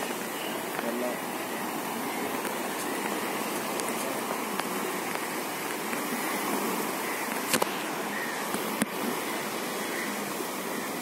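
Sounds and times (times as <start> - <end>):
waves breaking on sandy beach: 0.0 - 11.0.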